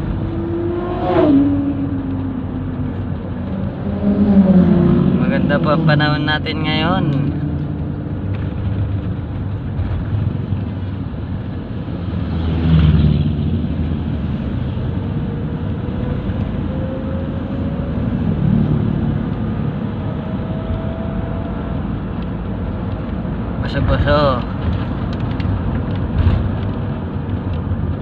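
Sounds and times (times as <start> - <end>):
van engine and road noise: 0.0 - 28.0.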